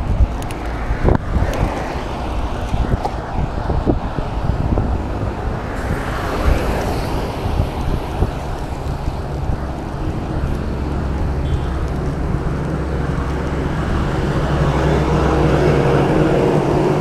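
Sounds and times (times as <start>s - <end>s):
motor vehicle passing: 0.0s - 17.0s
road traffic: 0.0s - 17.0s
wind rumbling on microphone: 0.0s - 17.0s.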